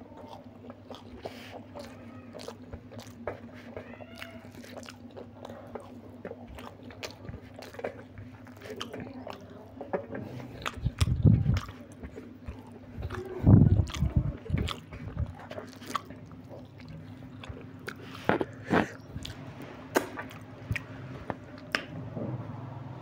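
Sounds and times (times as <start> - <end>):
wet chewing and lip smacks: 0.2 - 21.9.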